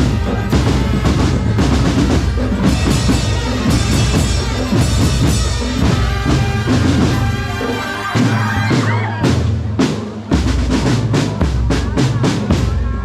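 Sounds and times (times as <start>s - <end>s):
bass drum beats: 0.0s - 13.0s
drum corps playing: 0.0s - 13.0s.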